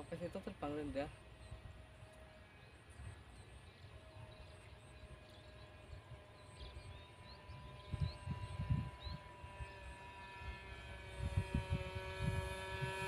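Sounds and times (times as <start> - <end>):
distant model airplane engine drone: 0.0 - 13.0.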